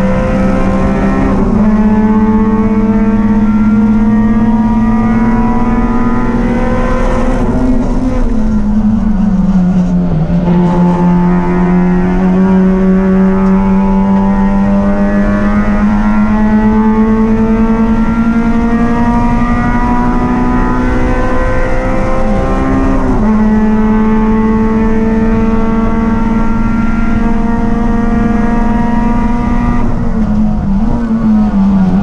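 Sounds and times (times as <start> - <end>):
race car engine at high revs: 0.0 - 32.0.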